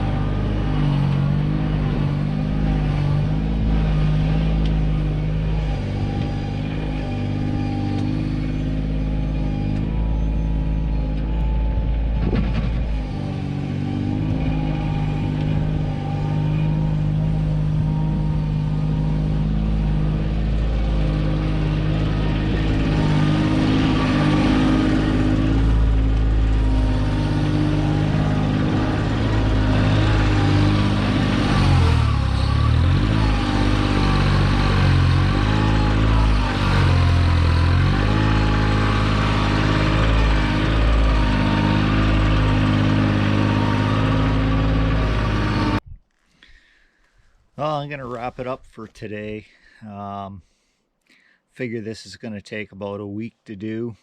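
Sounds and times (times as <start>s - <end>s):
tractor engine running: 0.0s - 45.8s.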